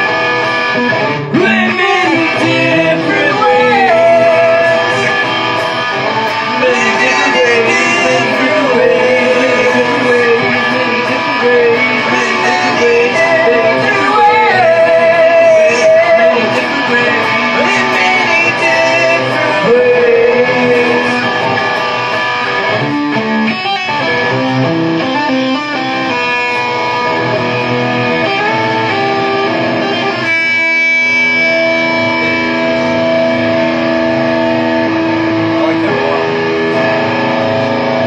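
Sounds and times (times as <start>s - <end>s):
electric guitar: 0.0s - 38.0s
rock band playing: 0.0s - 38.0s.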